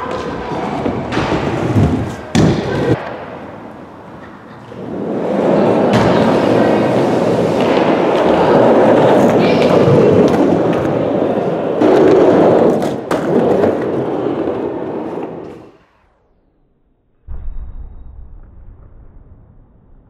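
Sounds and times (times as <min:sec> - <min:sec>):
skateboard wheels rolling on concrete: 0:00.0 - 0:16.1.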